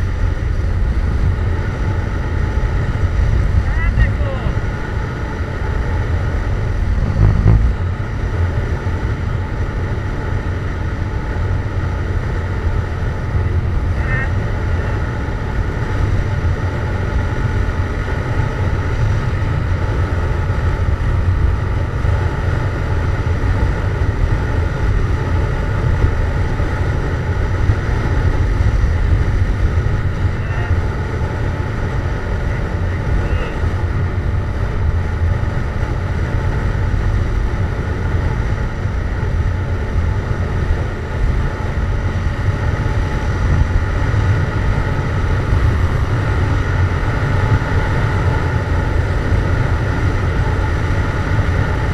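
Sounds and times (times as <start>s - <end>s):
motorcycle engine cruising: 0.0s - 51.9s
wind noise on microphone: 0.0s - 51.9s.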